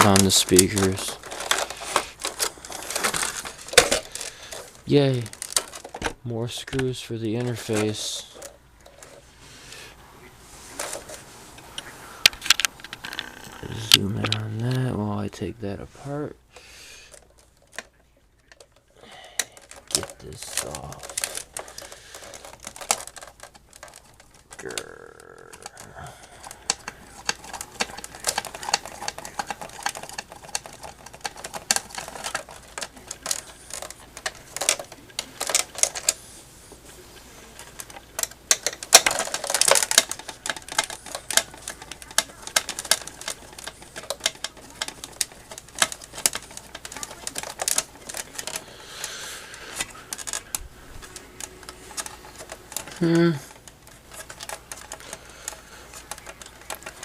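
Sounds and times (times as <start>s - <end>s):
plastic housing clicking and rattling: 0.0s - 9.2s, 12.2s - 14.8s, 17.1s - 57.0s.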